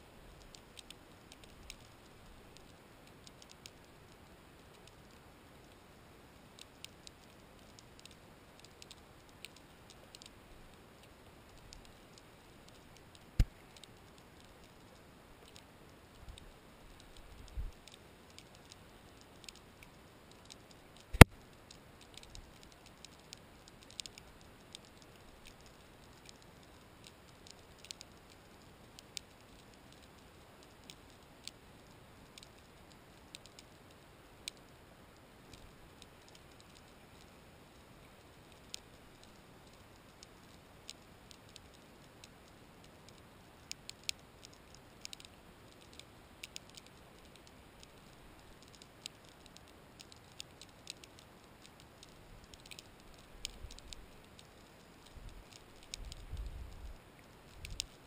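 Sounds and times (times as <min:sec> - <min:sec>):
underwater clicks and crackles: 0:00.3 - 0:58.0.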